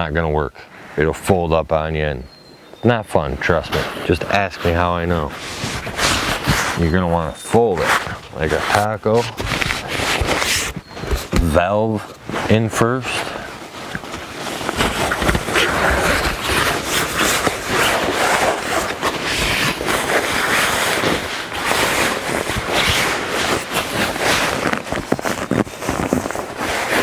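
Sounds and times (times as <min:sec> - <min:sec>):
air mattress and fabric rustling: 0:02.9 - 0:27.0.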